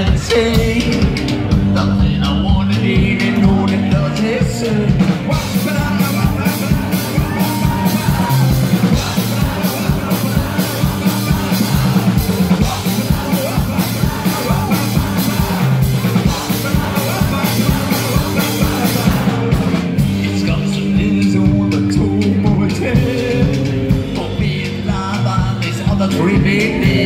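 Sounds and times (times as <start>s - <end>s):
drum beat: 0.0s - 27.0s
guitar: 0.0s - 27.0s
person singing: 0.0s - 27.0s.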